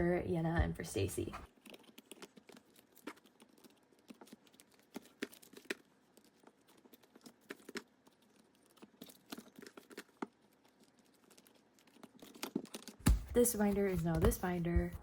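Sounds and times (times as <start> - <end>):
ring binders and pages clicking: 1.5 - 15.0.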